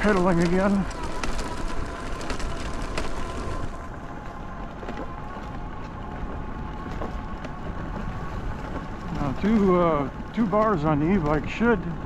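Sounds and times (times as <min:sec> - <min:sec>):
faint steady whine: 0:00.0 - 0:12.0
tyres rumbling on trail: 0:00.0 - 0:12.0.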